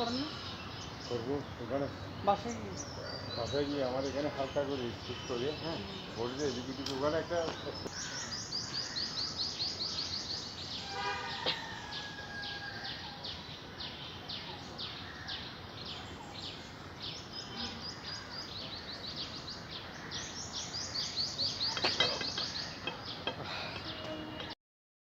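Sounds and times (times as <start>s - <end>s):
bird chirping: 0.0s - 24.5s.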